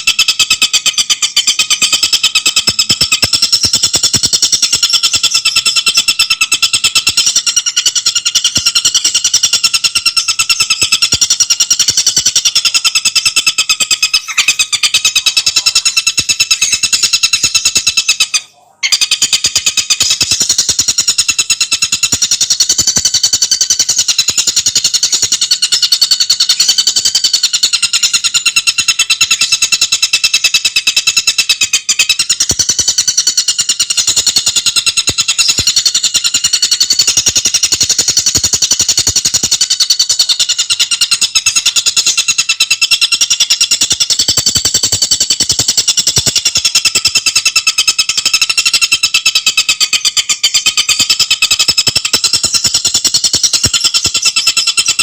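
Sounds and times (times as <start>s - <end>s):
bird chattering trill: 0.0s - 55.0s.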